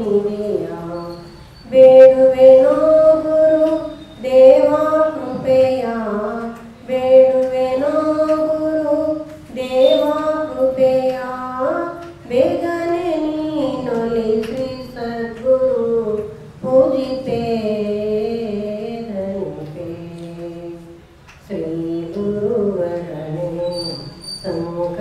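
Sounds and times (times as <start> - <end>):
woman singing into microphone: 0.0 - 25.0.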